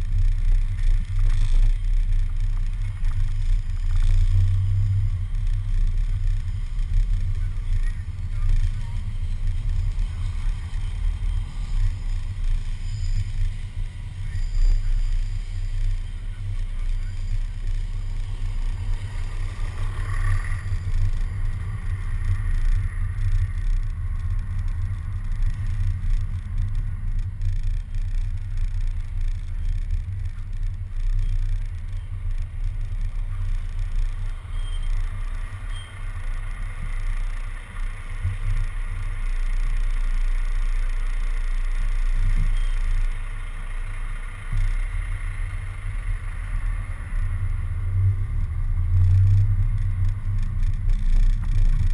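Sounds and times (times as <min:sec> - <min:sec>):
road rumble: 0:00.0 - 0:51.9.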